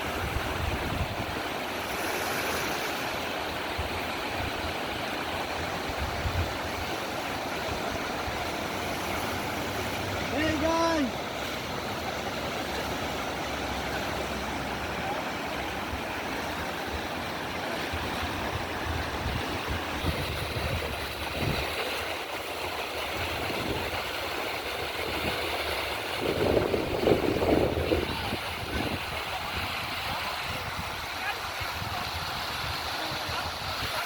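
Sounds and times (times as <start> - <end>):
river water rushing through rapids: 0.0 - 34.0.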